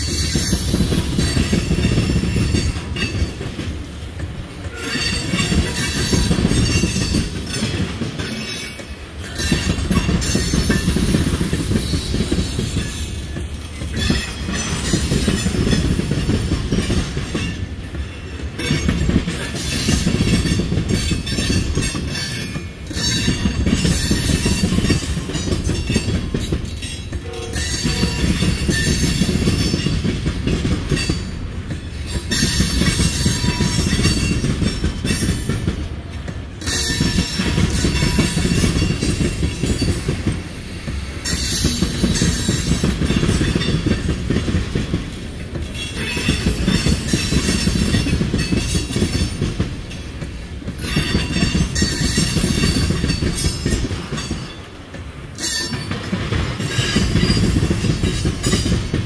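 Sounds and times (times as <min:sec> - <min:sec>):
train wheels rumbling and clacking: 0:00.0 - 0:59.0.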